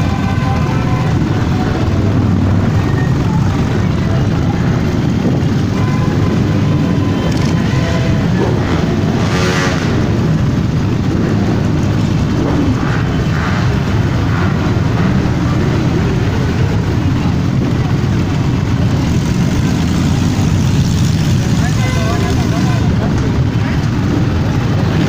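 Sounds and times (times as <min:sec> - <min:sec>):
motorcycle engines rumbling: 0:00.0 - 0:25.0.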